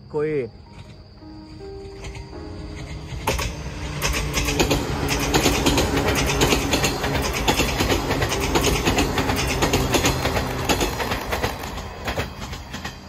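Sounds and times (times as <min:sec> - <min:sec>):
electric train passing: 0:00.0 - 0:13.0
train wheels clicking over rail joints: 0:00.7 - 0:13.0.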